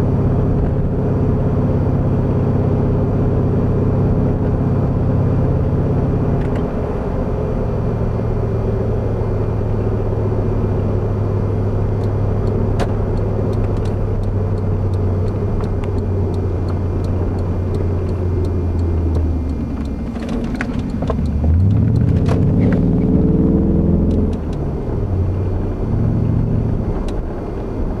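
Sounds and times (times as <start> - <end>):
car engine droning: 0.0 - 28.0.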